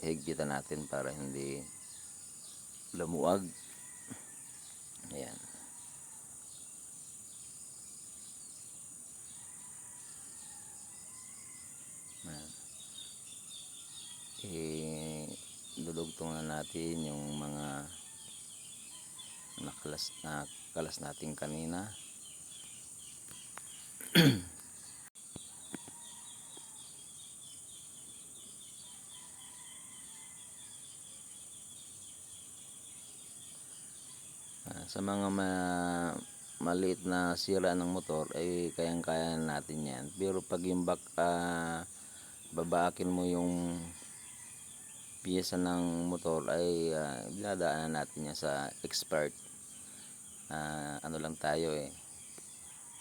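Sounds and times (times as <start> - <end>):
birds chirping: 0.0 - 53.0
insects trilling: 0.0 - 53.0.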